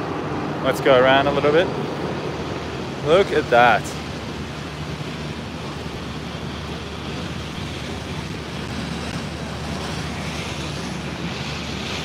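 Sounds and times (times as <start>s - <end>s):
constant low hum: 0.0s - 12.0s
steady hiss: 0.0s - 12.0s.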